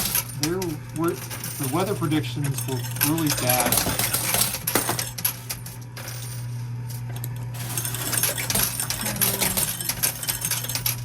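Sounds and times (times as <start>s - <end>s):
coins clinking in coin pusher: 0.0s - 11.0s
steady low hum: 0.0s - 11.0s.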